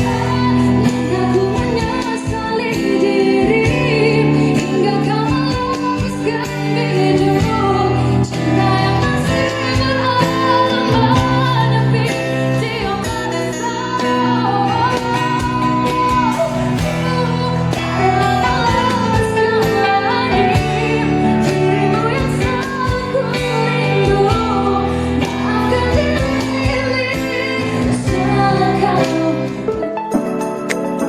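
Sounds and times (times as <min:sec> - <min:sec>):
band playing: 0:00.0 - 0:31.0
person singing: 0:00.0 - 0:31.0.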